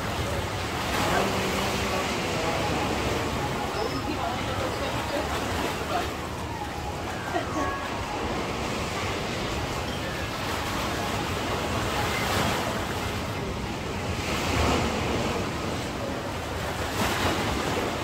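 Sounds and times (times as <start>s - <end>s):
sea waves breaking on beach: 0.0s - 18.0s.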